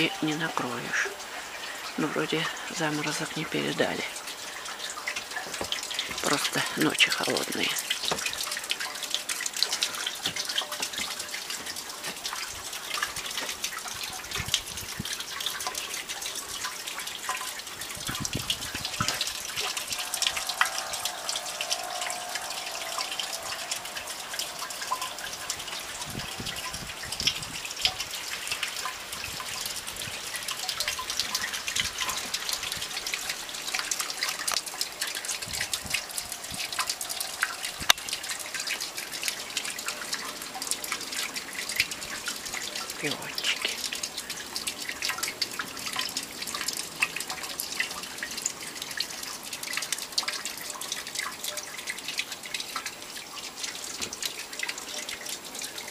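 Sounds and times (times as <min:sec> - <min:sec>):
raindrops pattering: 0:00.0 - 0:55.9.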